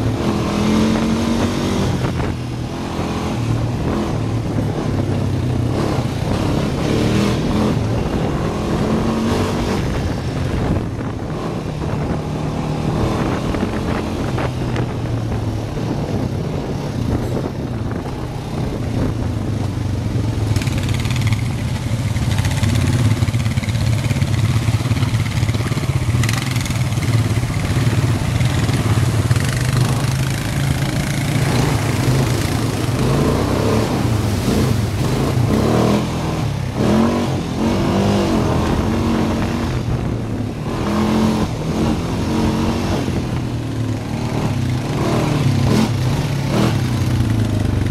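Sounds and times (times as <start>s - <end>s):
atv engine running: 0.0s - 47.9s
rushing wind and terrain noise: 0.0s - 47.9s.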